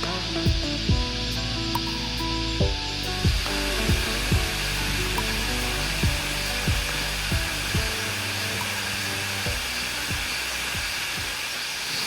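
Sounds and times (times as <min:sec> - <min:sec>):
background music with bass and drums: 0:00.0 - 0:11.7
cicadas buzzing: 0:00.0 - 0:12.0.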